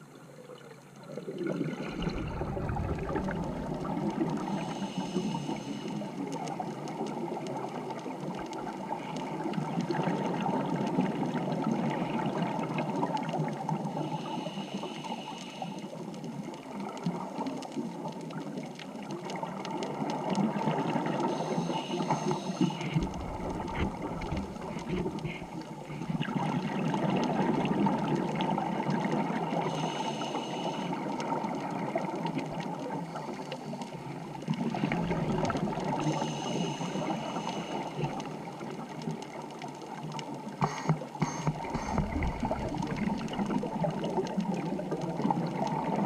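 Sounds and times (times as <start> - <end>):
water rushing and bubbling: 0.0 - 46.0.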